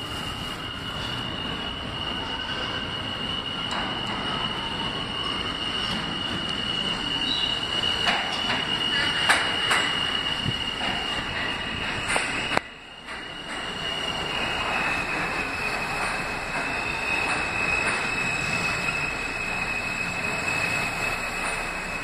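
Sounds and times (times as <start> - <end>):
subway train approaching: 0.0 - 22.0
high-pitched wheel squeal: 0.2 - 22.0.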